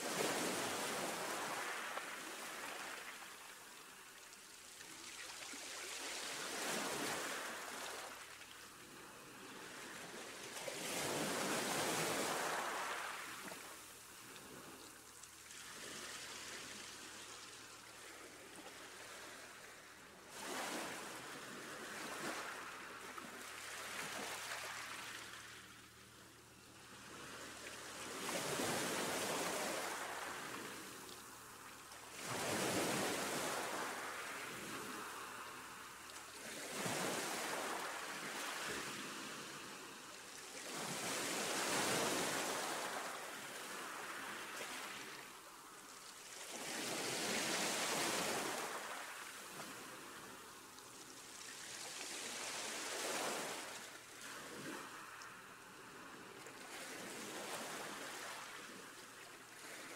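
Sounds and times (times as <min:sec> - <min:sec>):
waves washing in and out: 0:00.0 - 0:59.9.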